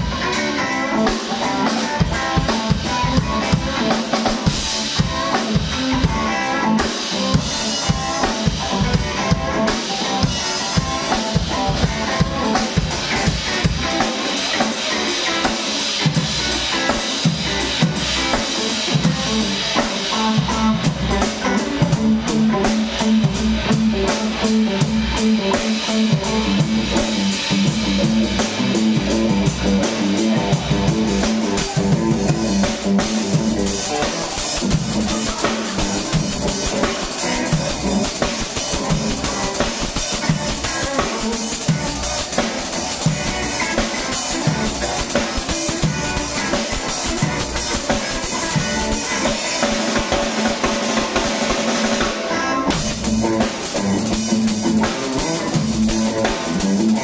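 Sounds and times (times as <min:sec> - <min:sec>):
drum kit groove: 0:00.0 - 0:57.0
electric guitar playing: 0:00.0 - 0:57.0.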